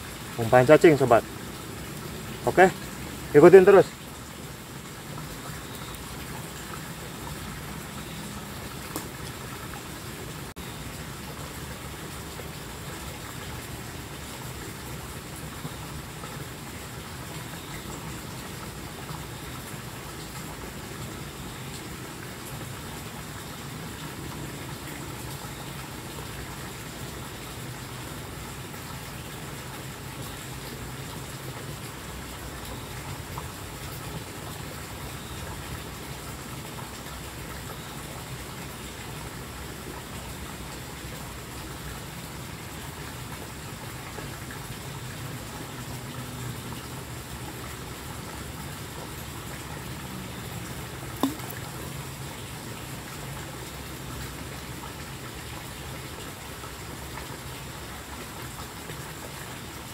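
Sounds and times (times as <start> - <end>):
rushing hiss of water: 0.0 - 59.9.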